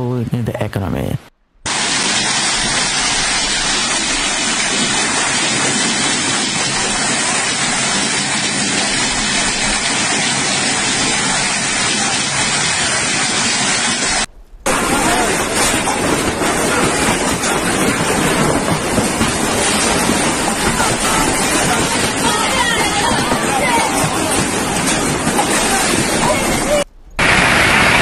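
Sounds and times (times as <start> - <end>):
heavy hail and rain: 1.7 - 28.0.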